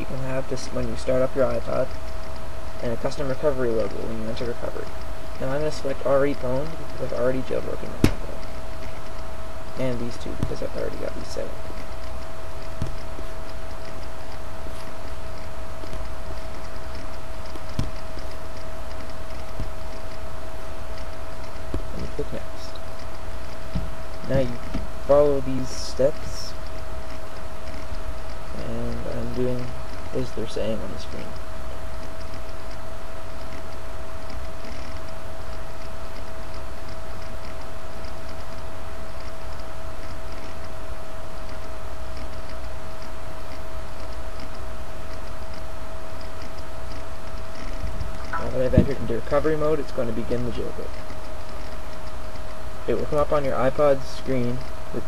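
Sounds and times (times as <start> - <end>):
constant mid-pitched tone: 0.0 - 55.0
electrical hum and hiss: 0.0 - 55.0
faint ticks: 0.9 - 55.0.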